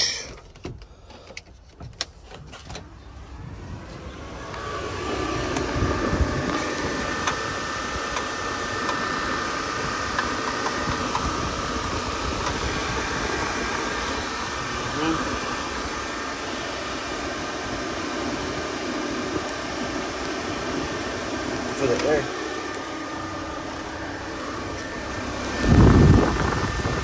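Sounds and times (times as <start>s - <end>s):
electric radiator fans whirring: 0.0s - 27.0s.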